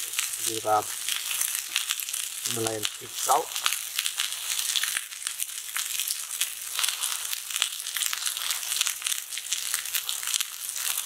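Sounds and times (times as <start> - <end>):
steaks sizzling on a griddle: 0.0 - 11.0.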